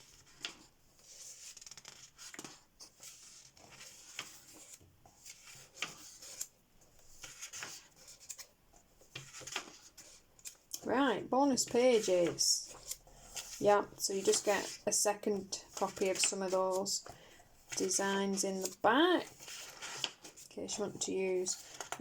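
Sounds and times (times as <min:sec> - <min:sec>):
paper pages turning: 0:00.0 - 0:10.7, 0:11.7 - 0:20.5, 0:21.4 - 0:22.0.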